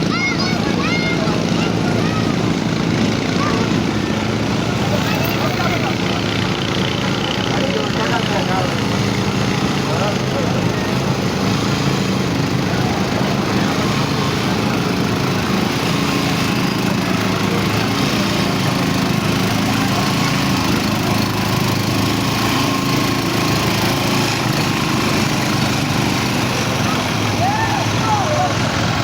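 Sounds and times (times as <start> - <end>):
truck engine droning: 0.0 - 29.0.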